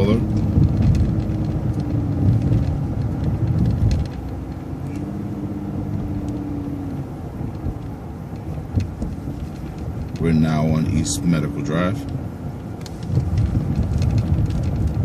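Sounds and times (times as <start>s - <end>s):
bus engine drone: 0.0s - 15.0s
road rumble: 0.0s - 15.0s.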